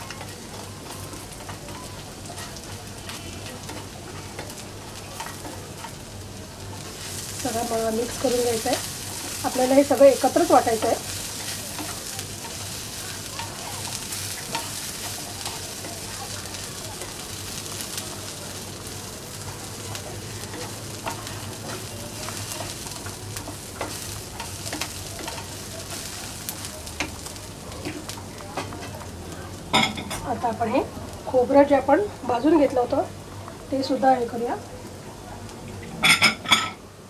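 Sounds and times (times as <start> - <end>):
onion frying sizzle: 0.0 - 37.0.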